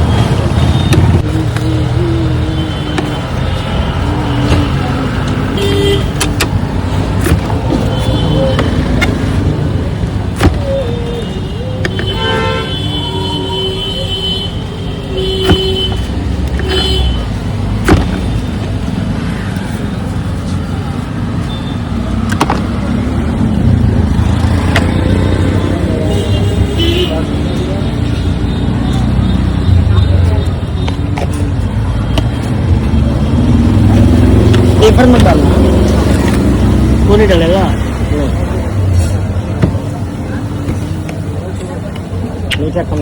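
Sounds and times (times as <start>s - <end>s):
vehicle engines running: 0.0s - 12.2s, 14.6s - 43.0s.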